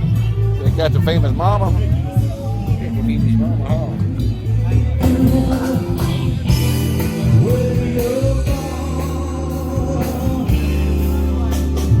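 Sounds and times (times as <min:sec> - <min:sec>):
band playing: 0:00.0 - 0:12.0
steady bass line: 0:00.0 - 0:12.0
man singing: 0:01.7 - 0:12.0.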